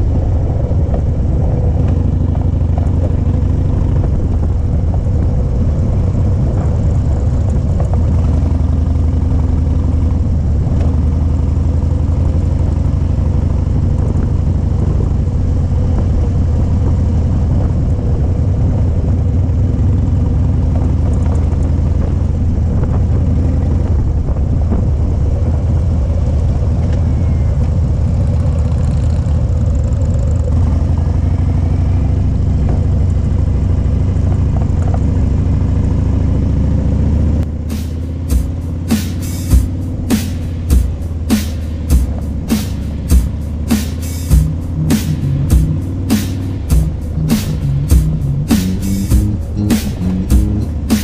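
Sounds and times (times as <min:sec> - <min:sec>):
motorcycle engine cruising: 0:00.0 - 0:51.0
wind and road noise: 0:00.0 - 0:51.0.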